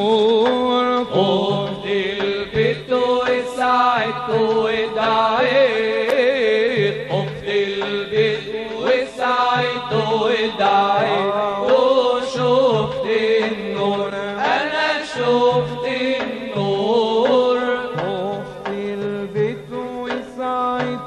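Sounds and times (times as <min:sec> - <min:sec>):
man singing devotional chant: 0:00.0 - 0:21.0.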